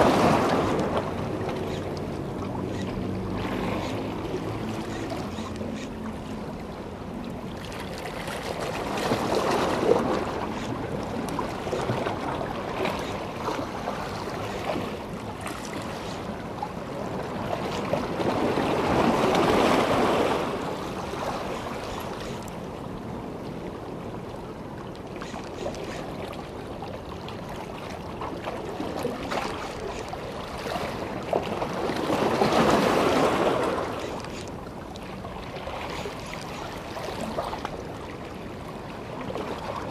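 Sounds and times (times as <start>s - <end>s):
sea water washing against shore: 0.0s - 5.4s, 6.4s - 22.2s, 25.7s - 39.9s.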